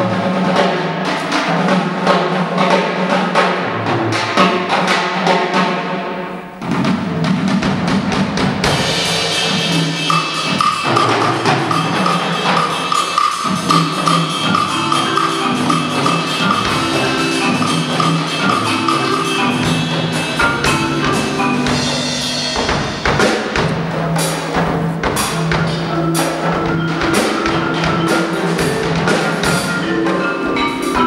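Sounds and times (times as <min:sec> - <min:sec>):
drum and cymbal strikes: 0:00.0 - 0:31.0
percussion ensemble music: 0:00.0 - 0:31.0.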